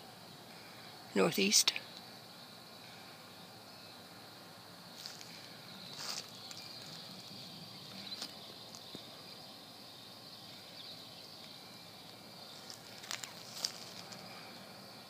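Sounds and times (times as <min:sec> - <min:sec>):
faint high-pitched hum: 0:00.0 - 0:15.0.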